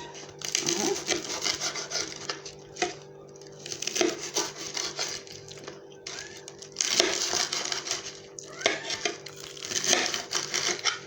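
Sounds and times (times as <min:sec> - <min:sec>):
knife crunching through crisp crust: 0:00.0 - 0:11.0.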